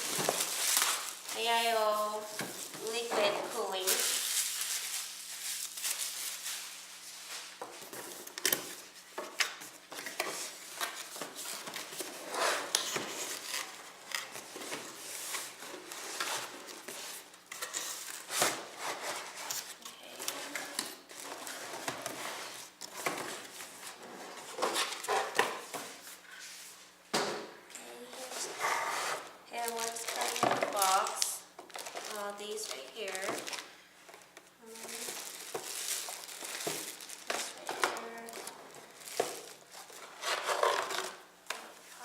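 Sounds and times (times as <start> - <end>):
packaging rustling and crinkling: 0.0 - 26.4, 28.4 - 42.0.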